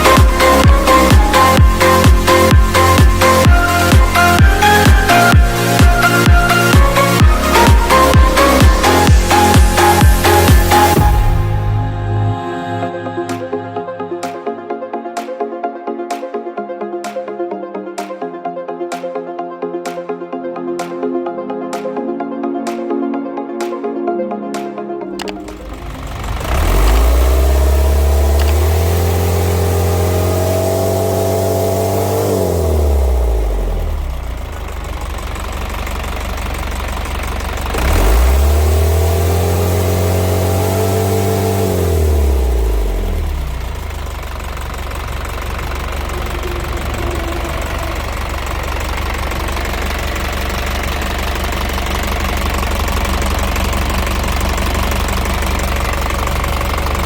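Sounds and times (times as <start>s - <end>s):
diesel engine revving and idling: 0.0s - 13.8s, 25.1s - 57.0s.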